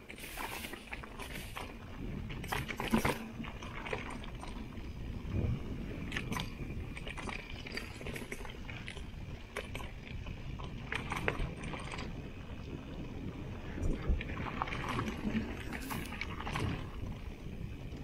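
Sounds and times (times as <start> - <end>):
bike clicking and rattling: 0.0 - 18.0
tyres rumbling on trail: 0.0 - 18.0
wind on microphone: 0.0 - 18.0.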